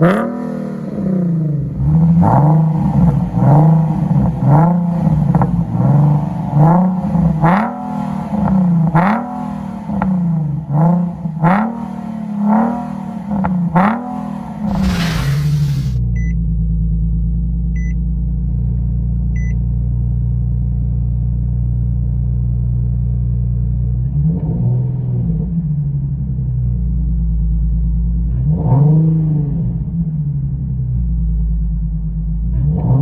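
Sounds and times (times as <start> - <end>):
car engine idling and revving: 0.0 - 16.0, 20.2 - 33.0.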